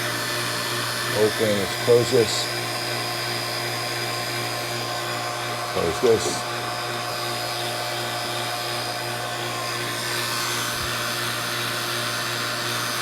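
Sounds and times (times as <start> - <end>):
vacuum pump humming and hissing: 0.0 - 13.0.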